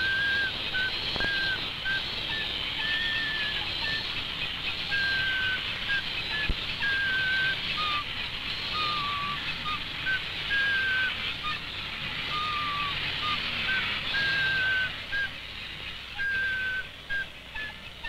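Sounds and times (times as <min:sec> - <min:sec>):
high pipe playing a tune: 0:00.0 - 0:15.4
steady hiss: 0:00.0 - 0:18.0.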